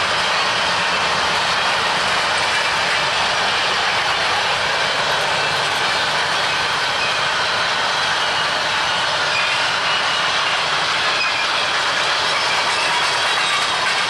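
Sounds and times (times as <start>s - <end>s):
train wheels rushing on rails: 0.0s - 14.0s.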